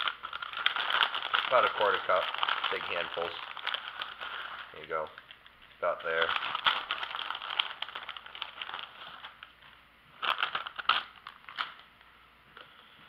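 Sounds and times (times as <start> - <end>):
packaging crackling and rustling: 0.0 - 11.9.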